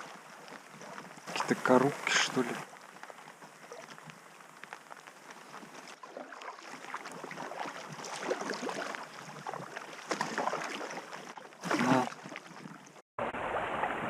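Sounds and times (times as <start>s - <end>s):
moving water wash: 0.0s - 14.0s
paddle splashes and drips: 0.0s - 14.0s.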